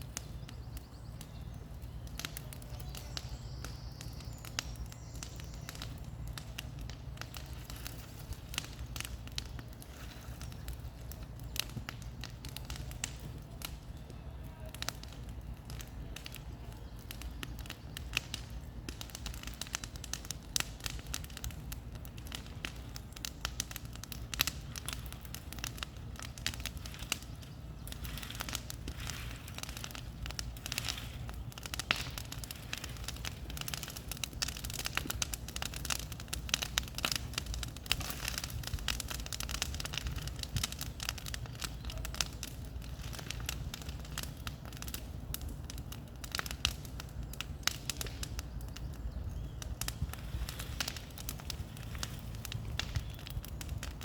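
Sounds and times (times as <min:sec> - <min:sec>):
bonfire crackling and popping: 0:00.0 - 0:54.0
fire low rumble: 0:00.0 - 0:54.0.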